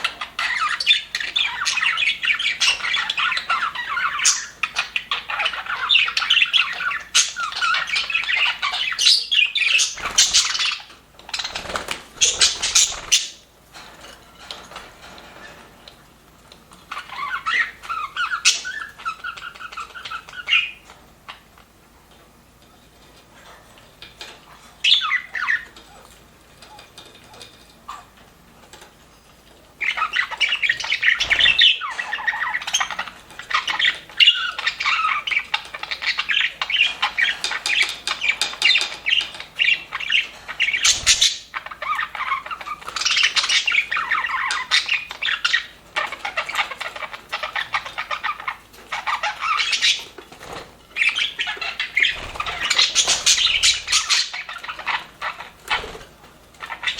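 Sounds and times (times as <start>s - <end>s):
budgerigars chirping and chattering: 0.0s - 13.5s, 16.7s - 21.5s, 23.4s - 28.2s, 29.8s - 56.9s.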